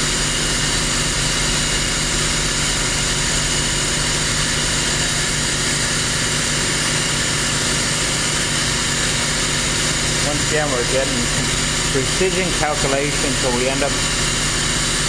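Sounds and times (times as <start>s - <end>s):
pressure washer droning: 0.0s - 15.0s.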